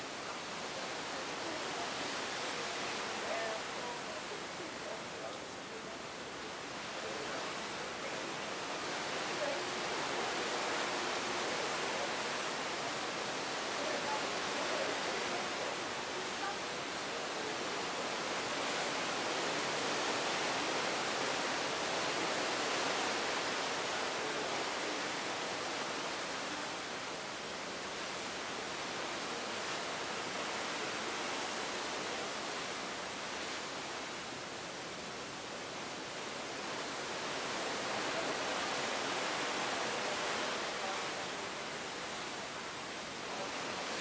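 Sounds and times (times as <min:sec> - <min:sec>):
wind: 0:00.0 - 0:44.0.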